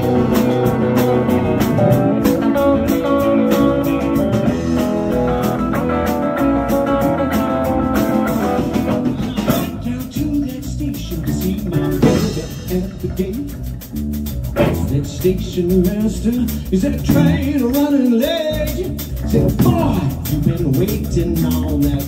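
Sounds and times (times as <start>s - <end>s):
electric guitar: 0.0s - 21.2s
bass guitar: 0.0s - 22.0s
drum kit with cymbal strokes: 0.0s - 22.0s.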